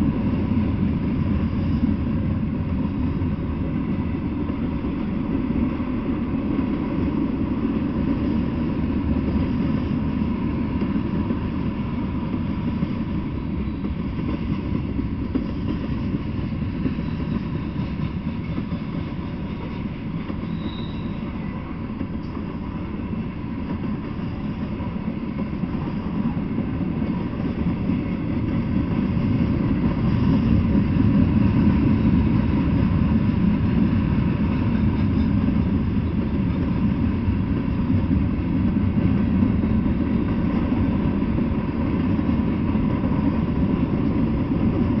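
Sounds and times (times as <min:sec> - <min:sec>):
steel wheels rumbling on rails: 0:00.0 - 0:45.0.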